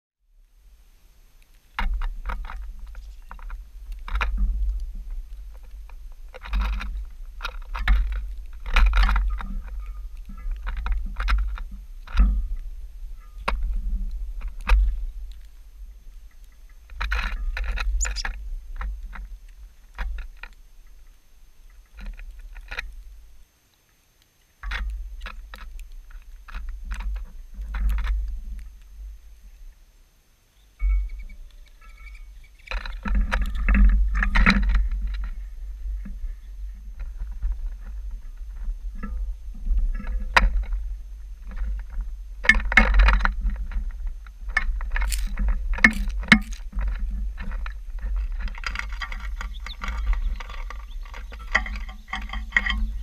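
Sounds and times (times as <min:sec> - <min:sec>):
birds pecking on wooden feeder: 0:01.4 - 0:23.3, 0:31.1 - 0:53.0.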